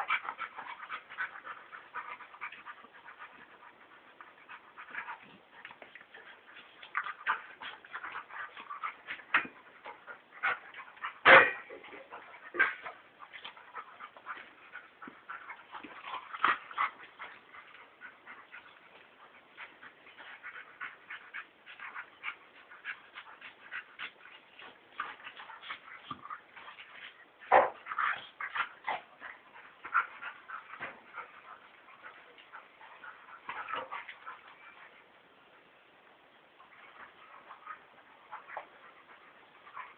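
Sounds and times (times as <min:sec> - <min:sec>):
dogs play-wrestling: 0:00.0 - 0:39.9.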